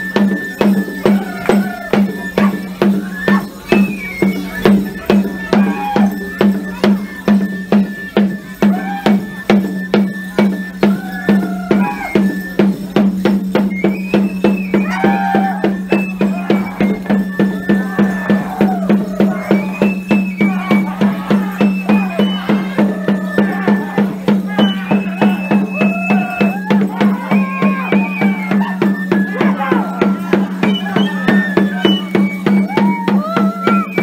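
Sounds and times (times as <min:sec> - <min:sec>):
festive dance music: 0:00.0 - 0:34.0.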